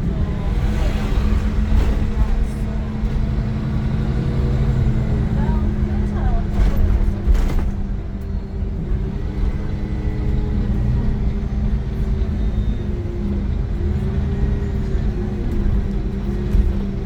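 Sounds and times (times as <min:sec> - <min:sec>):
bus diesel engine rumbling: 0:00.0 - 0:17.0.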